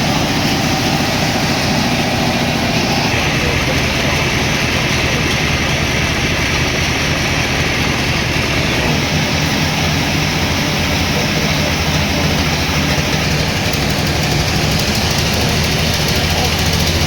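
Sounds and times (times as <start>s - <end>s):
sawmill machinery drone: 0.0s - 17.0s.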